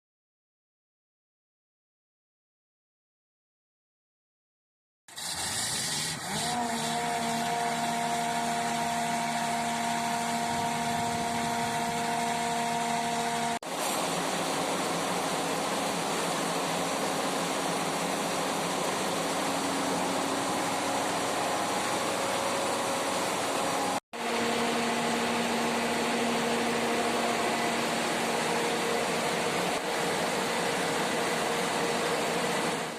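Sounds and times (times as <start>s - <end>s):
diesel generator running: 5.2s - 32.9s.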